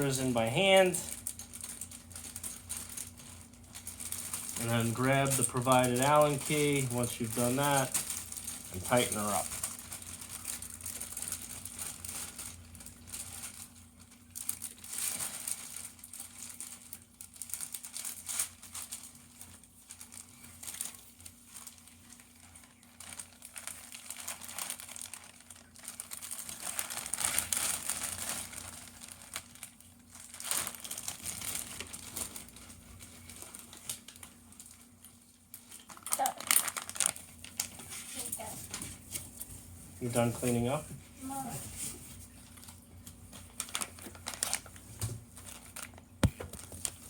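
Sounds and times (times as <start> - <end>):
packing material crinkling: 0.0 - 47.0.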